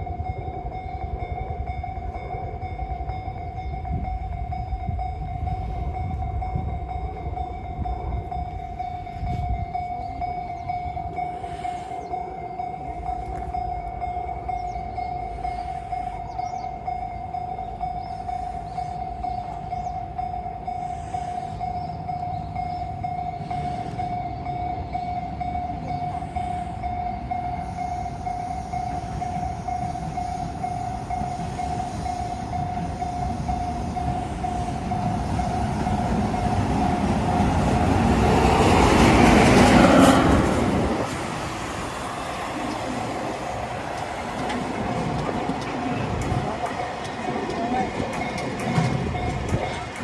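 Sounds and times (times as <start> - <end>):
freight train rumbling past: 0.0 - 50.0
level crossing alarm ringing: 0.0 - 50.0.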